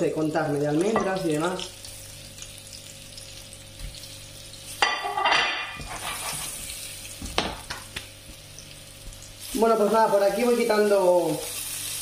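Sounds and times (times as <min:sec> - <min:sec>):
meatballs sizzling in oil: 0:00.0 - 0:12.0.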